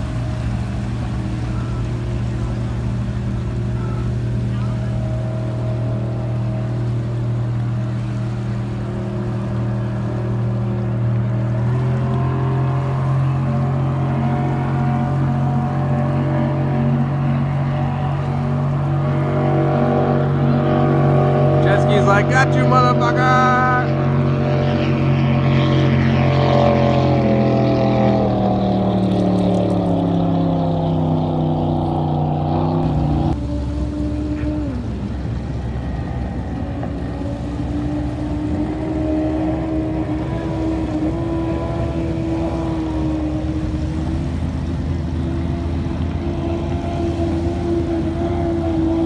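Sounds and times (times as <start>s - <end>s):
speedboat engine: 0.0s - 49.0s.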